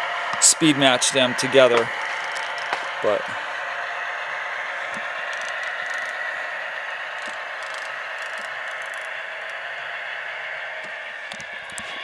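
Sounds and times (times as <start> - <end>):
model train engine sound from speaker: 0.0 - 12.0.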